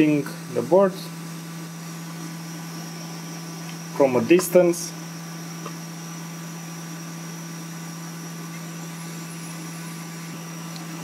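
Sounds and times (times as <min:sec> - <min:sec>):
hot air blower humming: 0:00.0 - 0:11.0.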